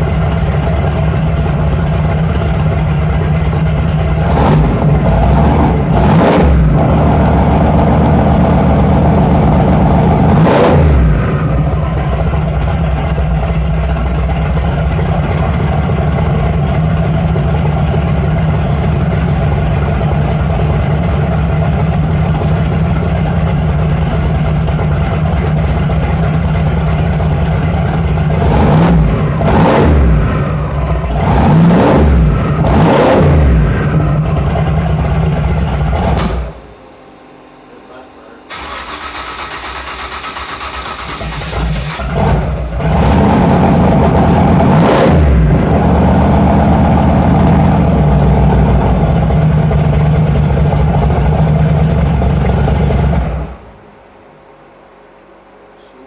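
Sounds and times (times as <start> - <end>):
engine idling with throttle blips: 0.0 - 54.0.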